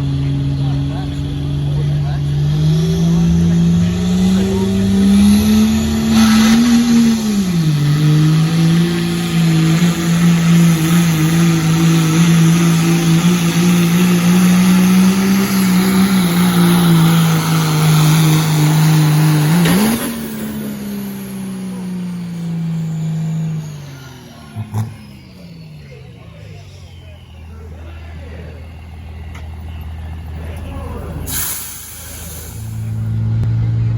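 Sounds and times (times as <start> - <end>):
diesel truck engine roaring: 0.0 - 33.9.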